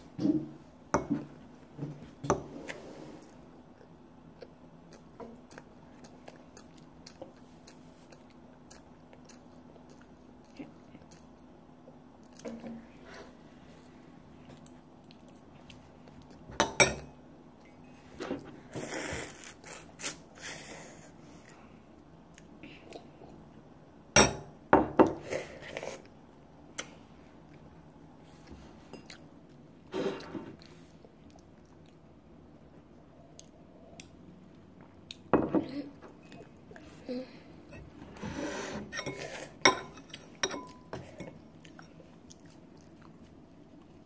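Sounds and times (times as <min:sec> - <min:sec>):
child chewing: 0:02.6 - 0:16.5, 0:17.6 - 0:23.5, 0:25.2 - 0:44.0.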